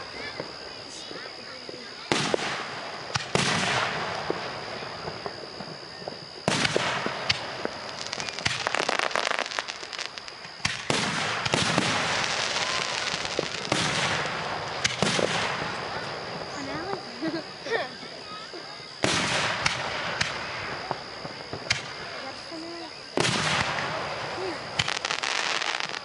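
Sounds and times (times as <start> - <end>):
crackling firework shells: 0.0 - 26.0
firework booms: 1.6 - 17.6, 19.0 - 26.0.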